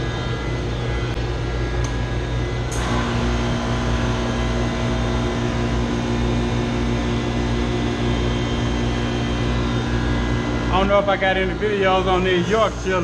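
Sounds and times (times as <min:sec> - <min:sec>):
chiller and pump humming: 0:00.0 - 0:13.0
steady humming note: 0:00.0 - 0:13.0.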